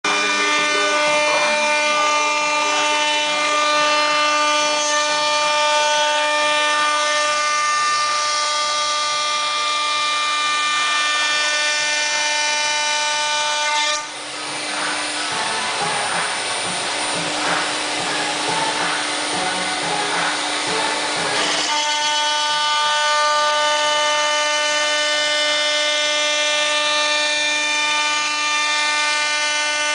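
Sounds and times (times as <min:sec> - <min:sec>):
harsh hissing cutting noise: 0:00.1 - 0:25.2
cnc router high-pitched whine: 0:00.1 - 0:29.9.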